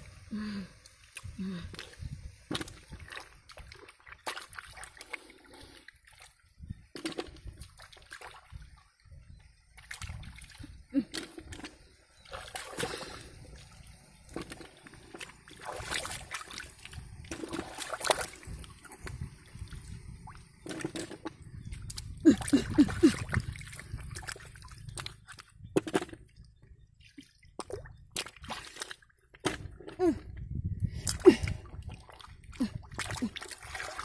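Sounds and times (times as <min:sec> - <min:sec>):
wading through muddy water: 0:00.0 - 0:34.0.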